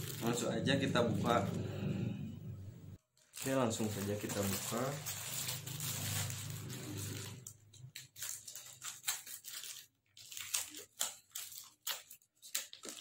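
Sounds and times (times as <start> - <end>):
scissors cutting plastic wrapping: 0.0 - 1.4, 3.0 - 13.0.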